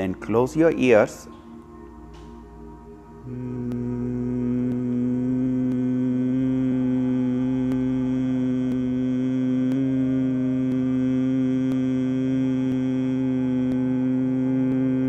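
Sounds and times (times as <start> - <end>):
low breath humming: 1.3 - 15.0.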